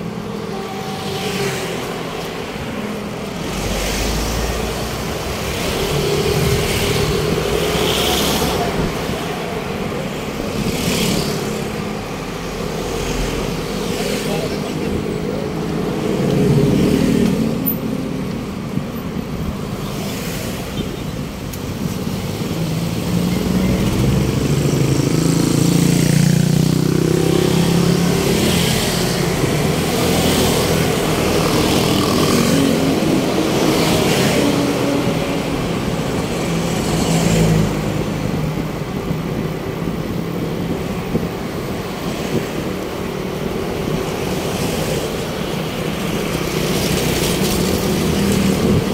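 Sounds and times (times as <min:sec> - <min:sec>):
vehicle engines running: 0:00.0 - 0:48.9.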